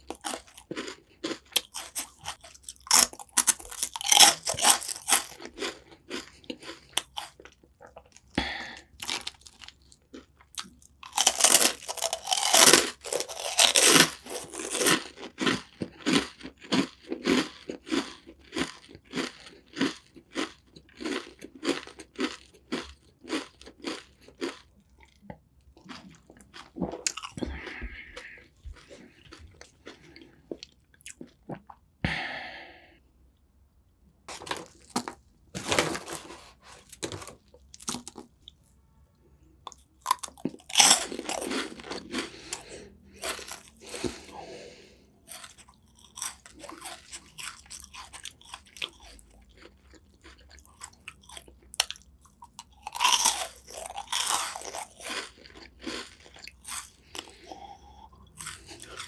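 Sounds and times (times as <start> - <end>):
chewing crunchy snacks: 0.0 - 31.8, 34.3 - 38.8, 39.6 - 59.0.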